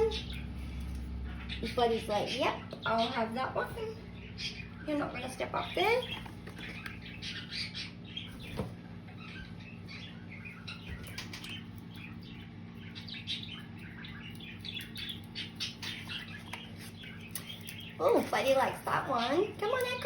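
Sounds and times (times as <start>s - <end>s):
parrots chewing toys: 0.0s - 20.0s
parrots chirping softly: 0.0s - 20.0s.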